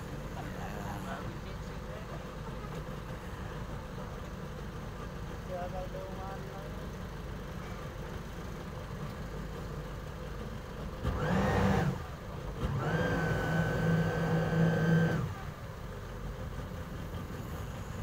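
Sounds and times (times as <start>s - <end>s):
boat engine idling and revving: 0.0s - 18.0s
engine whine: 0.0s - 18.0s.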